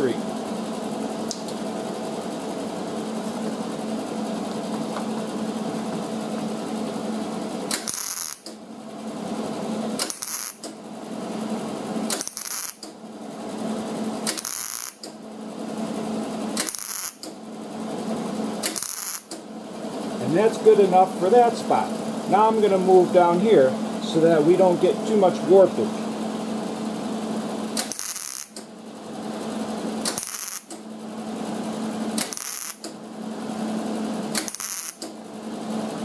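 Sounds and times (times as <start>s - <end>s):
steady hum: 0.0s - 36.0s.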